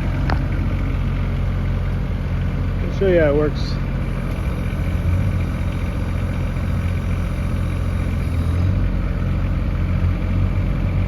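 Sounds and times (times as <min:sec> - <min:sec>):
mini excavator engine idling: 0:00.0 - 0:11.0.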